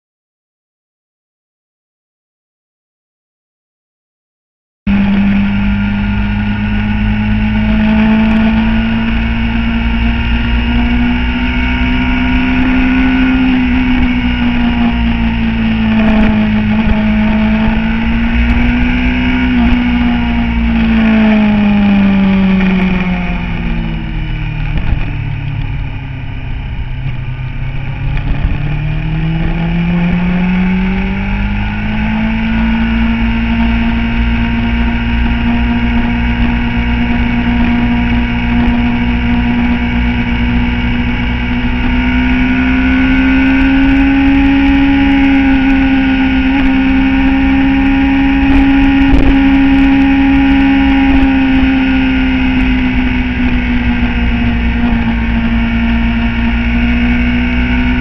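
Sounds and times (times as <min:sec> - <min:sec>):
motorcycle engine running: 0:04.9 - 0:58.0.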